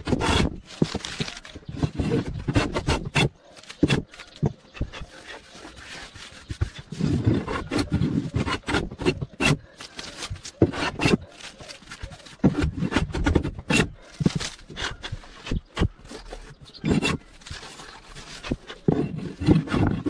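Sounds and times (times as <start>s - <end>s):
scraping strokes on wood: 0.0s - 20.0s.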